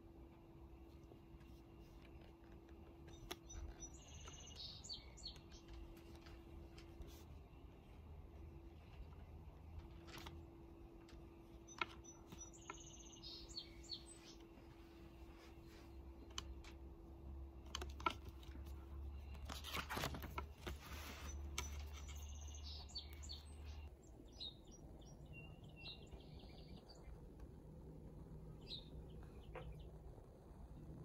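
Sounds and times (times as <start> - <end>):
small birds chirping: 0.2 - 31.0.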